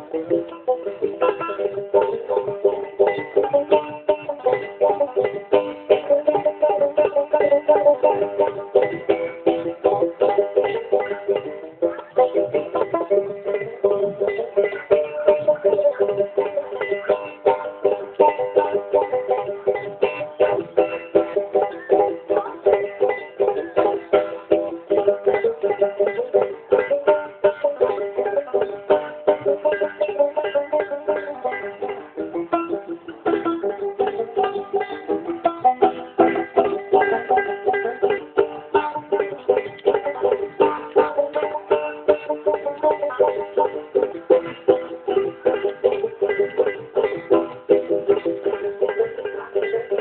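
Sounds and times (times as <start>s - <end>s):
banjo picking fast notes: 0.0s - 50.0s.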